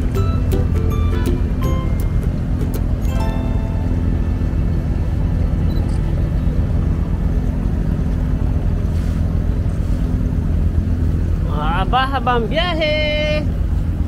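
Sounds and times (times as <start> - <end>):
boat diesel engine droning: 0.0 - 14.0.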